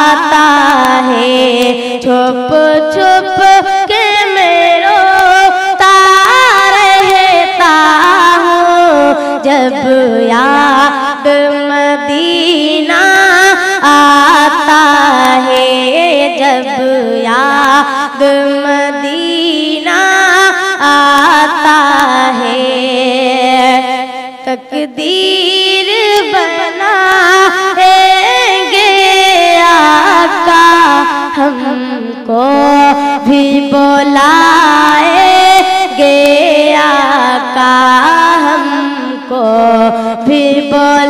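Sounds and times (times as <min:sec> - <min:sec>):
boy singing through a microphone: 0:00.0 - 0:41.0.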